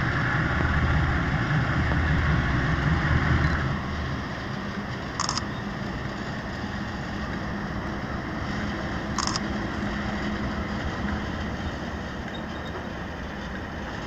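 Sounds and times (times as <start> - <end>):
diesel locomotive engine hum: 0.0 - 14.0
train rumbling past: 0.0 - 14.0.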